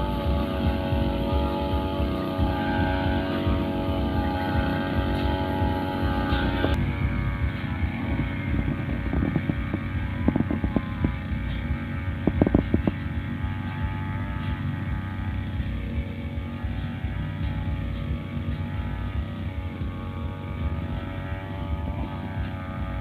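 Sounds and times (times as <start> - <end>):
brushcutter engine running: 0.0 - 23.0.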